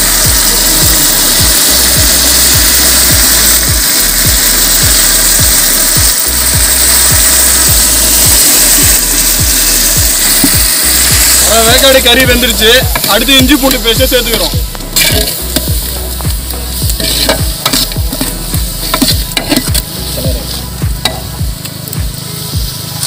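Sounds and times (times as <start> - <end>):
bass drum thumps: 0.0 - 22.7
bass notes: 0.0 - 23.0
dense hissing texture: 0.0 - 23.0.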